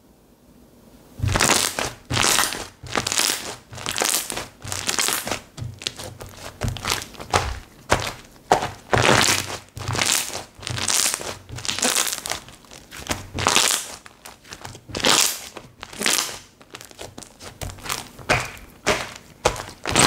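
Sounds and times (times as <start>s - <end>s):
slime squished by hand: 1.2s - 20.0s.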